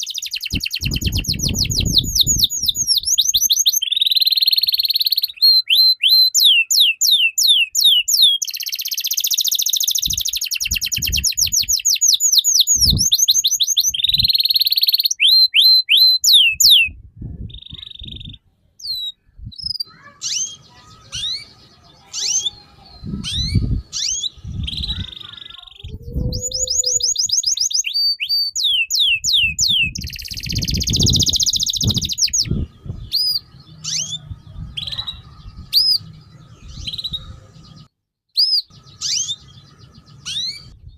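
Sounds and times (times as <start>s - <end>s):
songbird chattering song: 0.0s - 40.9s.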